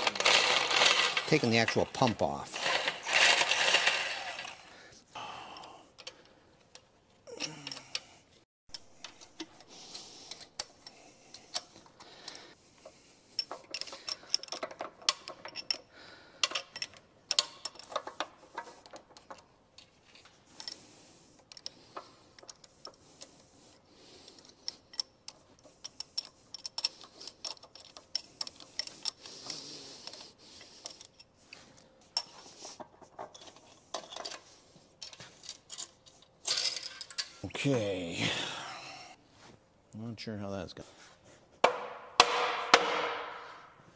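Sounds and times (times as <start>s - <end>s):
tools and bolts clinking on metal: 0.0s - 4.7s, 5.6s - 8.1s, 8.7s - 23.4s, 24.1s - 37.7s.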